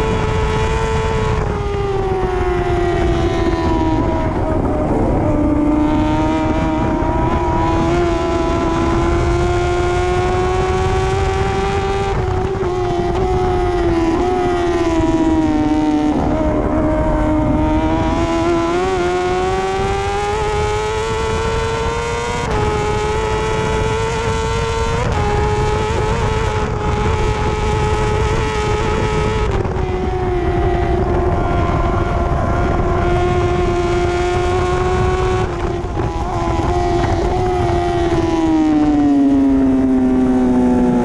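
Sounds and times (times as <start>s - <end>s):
heavy rush of wind: 0.0s - 41.0s
motorcycle engine at high revs: 0.0s - 41.0s.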